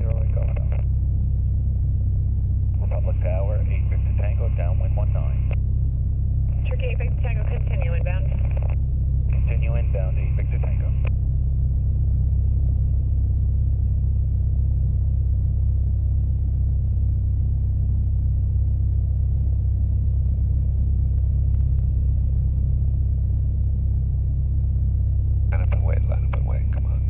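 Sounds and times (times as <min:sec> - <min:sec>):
airplane engine droning: 0:00.0 - 0:27.0.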